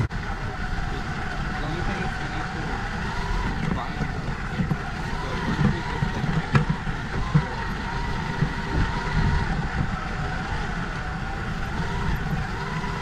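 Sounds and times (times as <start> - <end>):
electric motor whine: 0.0 - 13.0
low rumble from rough ground: 0.0 - 13.0.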